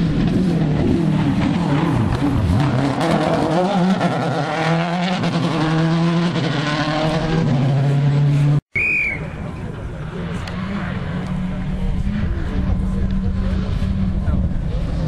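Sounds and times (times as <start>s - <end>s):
car engine revving: 0.0s - 8.6s, 9.5s - 15.0s.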